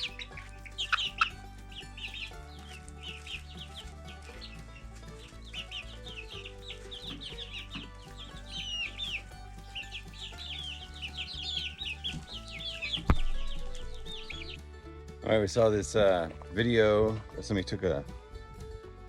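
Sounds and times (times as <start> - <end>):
hens clucking: 0.0 - 18.2
background music: 0.0 - 19.0.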